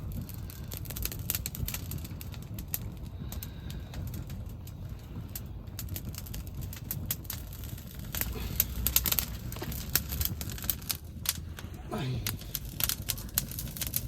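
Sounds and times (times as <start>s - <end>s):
fire crackling and popping: 0.0s - 14.0s
low steady rumble: 0.0s - 14.0s.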